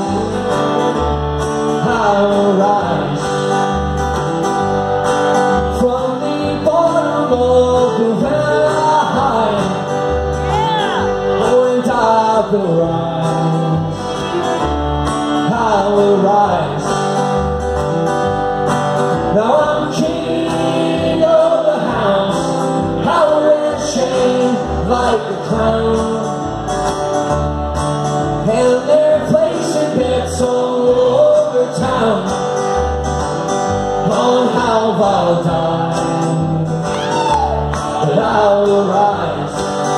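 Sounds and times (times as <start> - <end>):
man singing: 0.0 - 3.8, 5.4 - 17.3, 19.2 - 26.7, 28.3 - 32.8, 33.9 - 39.9
strummed acoustic guitar: 0.0 - 39.9.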